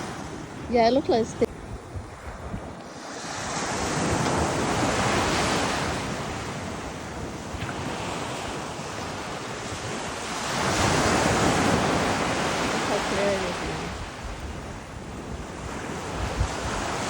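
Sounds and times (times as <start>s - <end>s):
waves washing: 0.0s - 17.0s
wind buffeting microphone: 0.0s - 17.0s.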